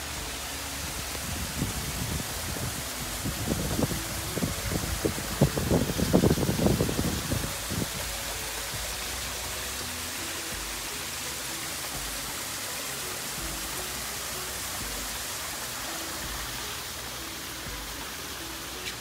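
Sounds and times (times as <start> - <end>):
faint soft music: 0.0 - 19.0
waterfall splashing into pond: 0.0 - 19.0.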